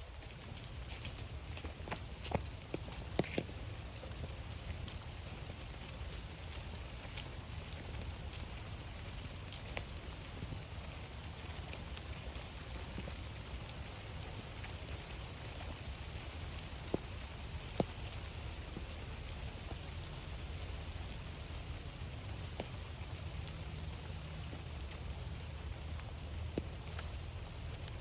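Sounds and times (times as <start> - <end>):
light rain falling: 0.0 - 28.0
raindrops ticking: 0.0 - 28.0.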